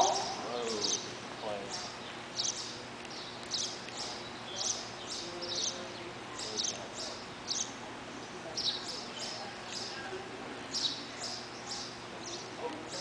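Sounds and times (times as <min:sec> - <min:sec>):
small bird chirping: 0:00.0 - 0:07.8, 0:08.5 - 0:10.0, 0:10.7 - 0:13.0.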